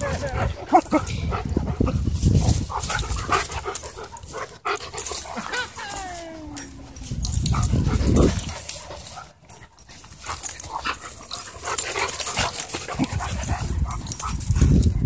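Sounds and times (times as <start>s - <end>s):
dogs yipping and whimpering: 0.0s - 1.6s, 2.7s - 15.0s.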